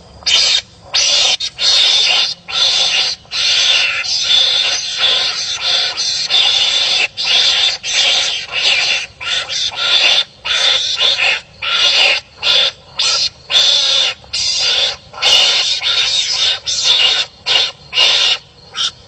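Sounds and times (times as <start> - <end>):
animals fighting with rasping calls: 0.2 - 19.0.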